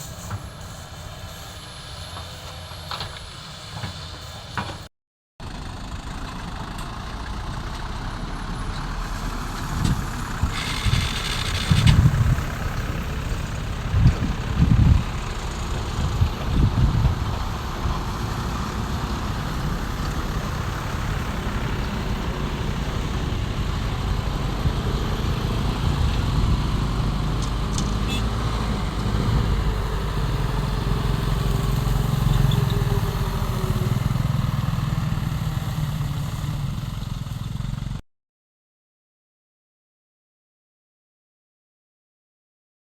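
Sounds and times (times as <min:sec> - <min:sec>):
heavy diesel machinery rumbling: 0:00.0 - 0:38.0.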